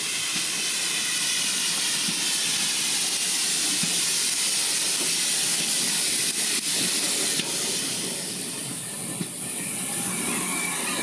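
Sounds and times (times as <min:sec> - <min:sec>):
steam hissing from locomotive: 0:00.0 - 0:11.0.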